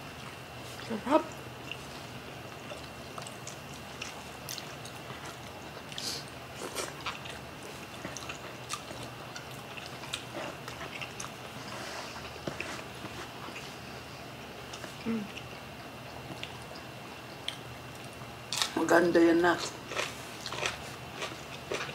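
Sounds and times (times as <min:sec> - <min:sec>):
chewing and lip smacks: 0:00.1 - 0:13.9, 0:14.6 - 0:18.7.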